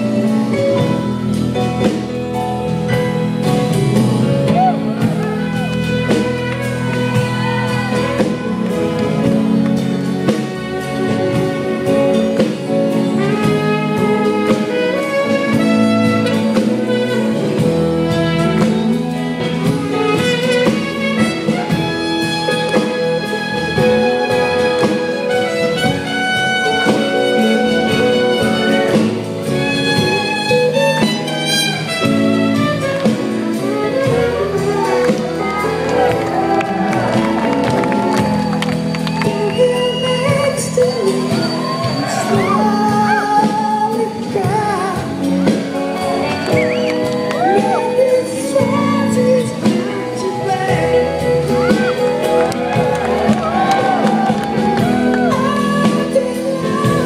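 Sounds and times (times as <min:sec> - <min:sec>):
live band playing instrumental: 0:00.0 - 0:57.0.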